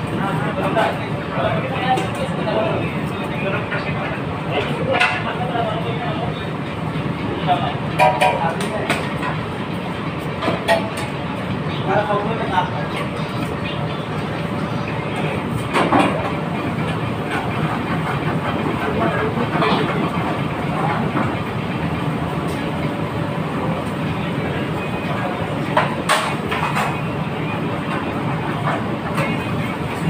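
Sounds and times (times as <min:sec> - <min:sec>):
busy kitchen roar: 0:00.0 - 0:30.0.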